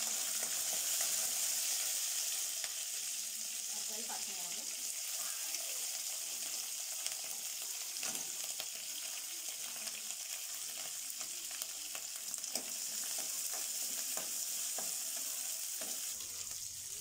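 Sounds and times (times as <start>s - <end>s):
chillies sizzling in hot oil: 0.0s - 17.0s.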